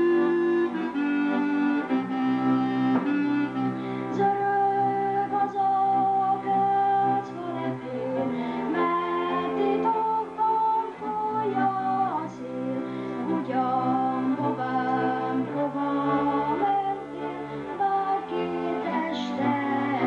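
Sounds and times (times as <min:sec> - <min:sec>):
boy singing folk song: 0:00.0 - 0:20.0
instrumental accompaniment with bass: 0:00.0 - 0:20.0.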